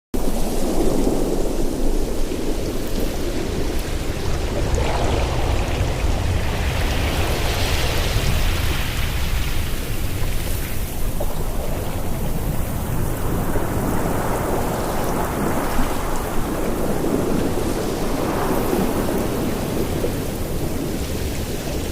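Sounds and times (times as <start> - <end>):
ocean waves on shore: 0.2 - 21.9.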